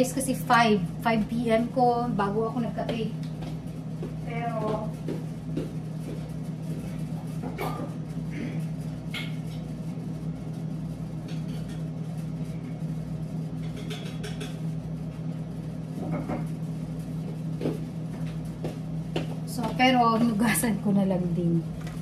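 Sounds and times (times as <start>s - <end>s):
air fryer humming: 0.0s - 22.0s.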